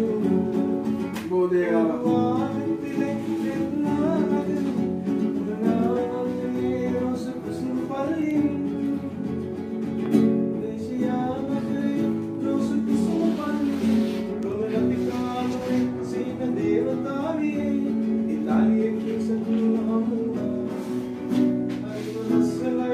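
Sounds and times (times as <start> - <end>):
acoustic guitar strumming: 0.0 - 22.9
man singing: 0.0 - 22.9.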